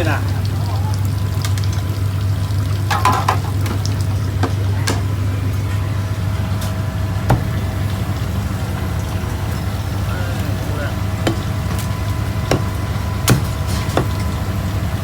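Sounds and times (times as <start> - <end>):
kitchen low hum: 0.0 - 15.0.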